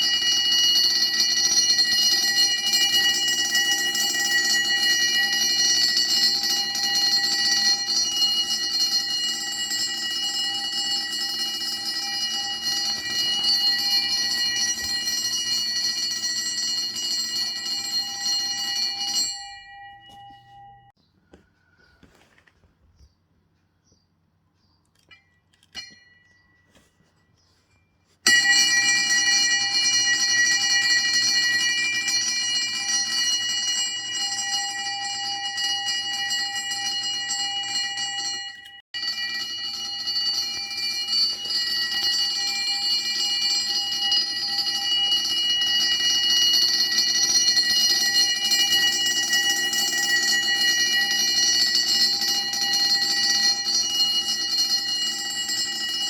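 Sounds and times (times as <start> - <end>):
fire alarm bell ringing: 0.0 - 21.0, 28.2 - 56.0.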